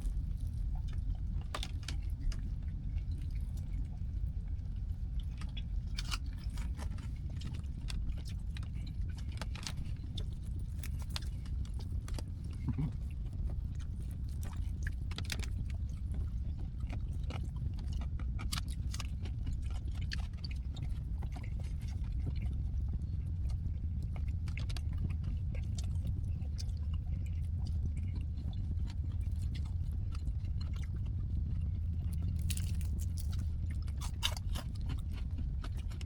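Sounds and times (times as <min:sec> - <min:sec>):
person chewing food: 0:00.0 - 0:36.0
steady low hum: 0:00.0 - 0:36.0.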